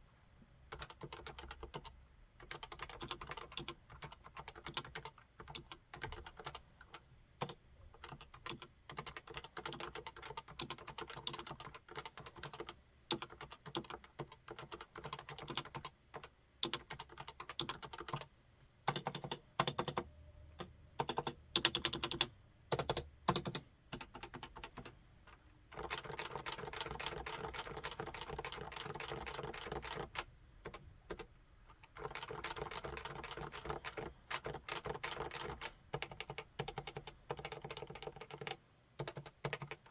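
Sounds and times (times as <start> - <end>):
keyboard typing: 0.7 - 18.3, 18.9 - 25.0, 25.7 - 39.9.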